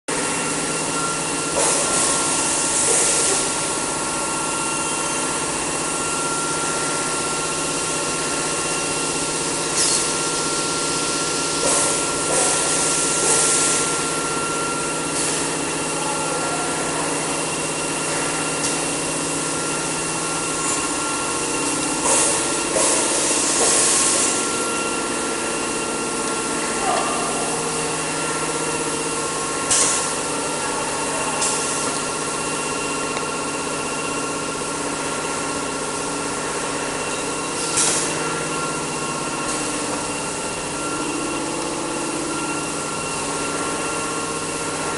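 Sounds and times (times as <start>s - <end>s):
machine hum with high whine: 0.1s - 44.9s.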